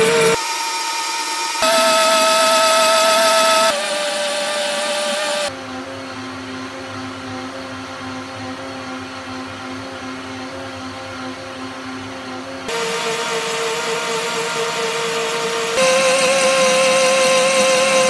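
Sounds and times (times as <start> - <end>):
blender motor whining: 0.0 - 18.0.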